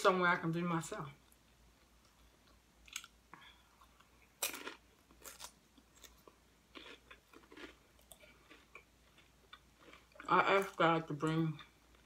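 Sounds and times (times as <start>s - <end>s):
crunchy chewing of chips: 1.8s - 12.0s.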